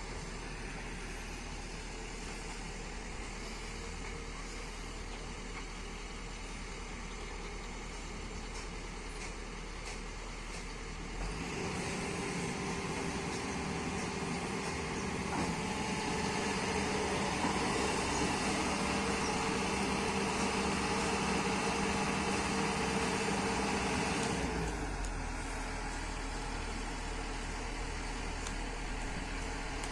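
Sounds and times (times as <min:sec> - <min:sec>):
excavator diesel engine humming: 0:00.0 - 0:29.9.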